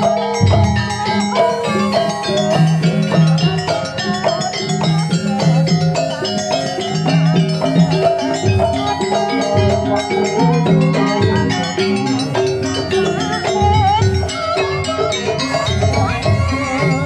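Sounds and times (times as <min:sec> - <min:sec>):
drums: 0:00.0 - 0:17.0
tuned metal percussion ensemble: 0:00.0 - 0:17.0.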